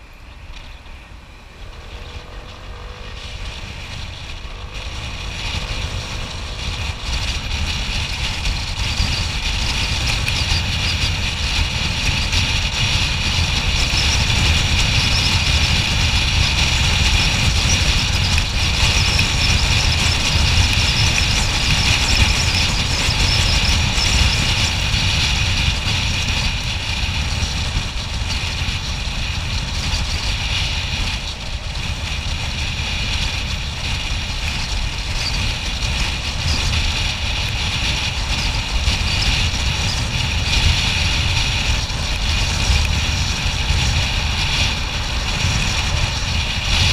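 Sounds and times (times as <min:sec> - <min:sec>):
scooter engine and tyre noise: 0:00.0 - 0:46.9
wind rumble on microphone: 0:00.0 - 0:46.9.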